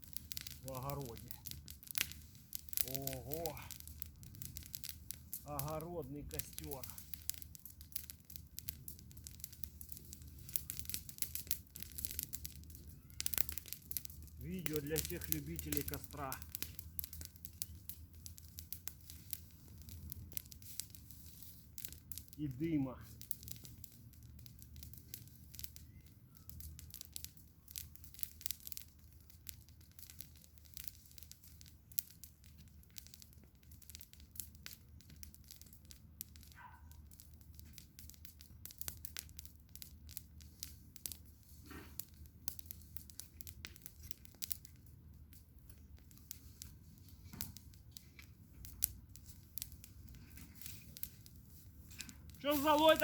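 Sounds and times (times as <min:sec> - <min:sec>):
bonfire crackling pops: 0:00.0 - 0:53.0.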